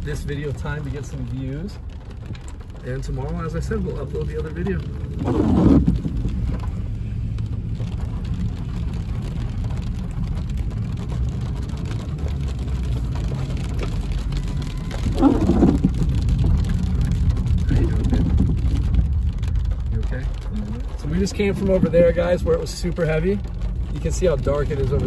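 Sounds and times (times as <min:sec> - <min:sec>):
rain hitting windshield: 0:00.0 - 0:25.0
road and engine rumble: 0:00.0 - 0:25.0.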